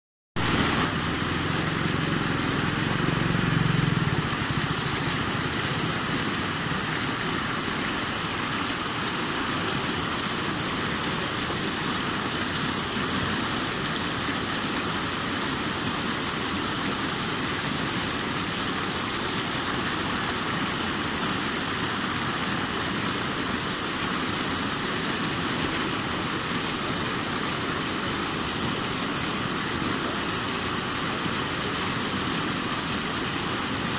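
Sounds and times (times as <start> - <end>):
floodwater pouring over ledge: 0.4 - 33.9.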